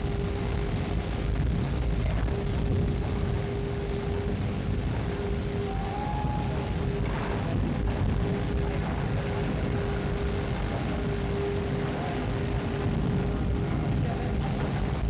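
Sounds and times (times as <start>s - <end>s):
thin whine: 0.0s - 14.3s
heavy machinery rumble: 0.0s - 15.0s.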